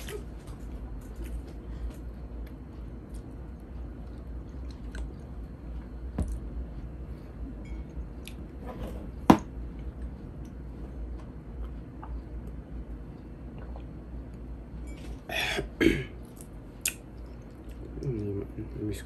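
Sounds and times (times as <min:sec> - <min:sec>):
person chewing food: 0:00.0 - 0:08.5, 0:09.6 - 0:14.5, 0:16.2 - 0:18.3
steady low hum: 0:00.0 - 0:19.0.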